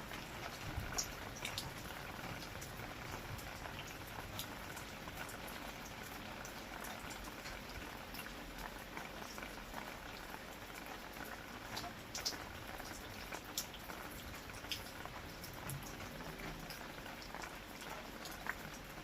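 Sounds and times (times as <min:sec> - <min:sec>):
raindrops tapping close by: 0:00.0 - 0:19.0
steady rain: 0:00.0 - 0:19.0.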